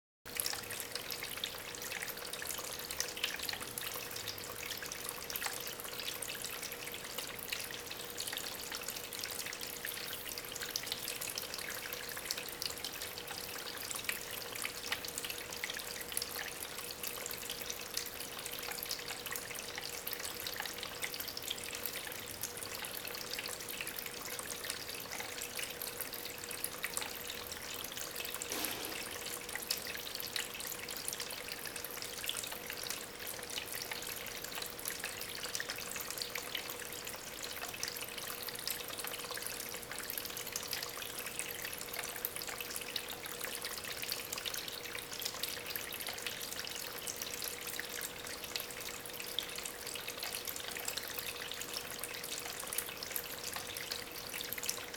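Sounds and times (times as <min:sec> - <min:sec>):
water trickling over stones: 0:00.3 - 0:54.9.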